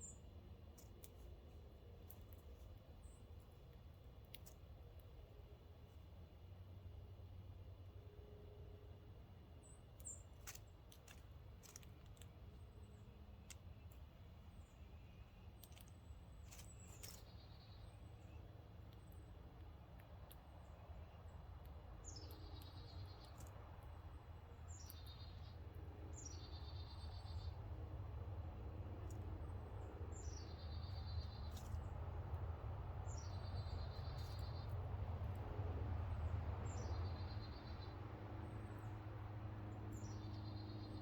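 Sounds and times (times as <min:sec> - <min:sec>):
songbirds calling: 0:00.0 - 0:05.5, 0:09.4 - 0:41.0.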